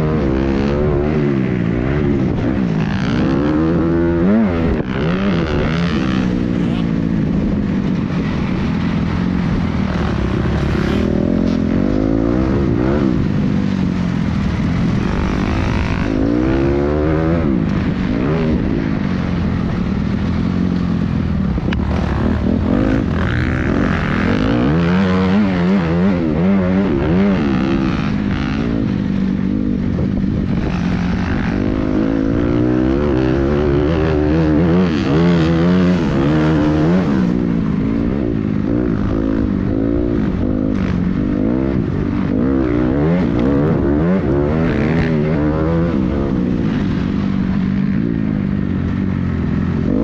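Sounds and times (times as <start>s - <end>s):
motocross bike engine revving: 0.0s - 20.8s, 21.6s - 50.0s.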